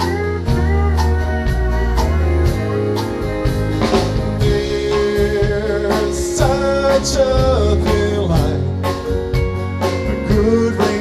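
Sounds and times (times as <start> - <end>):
bass: 0.0 - 11.0
country band playing: 0.0 - 11.0
guitar: 0.0 - 11.0
steady drum beat: 0.0 - 11.0.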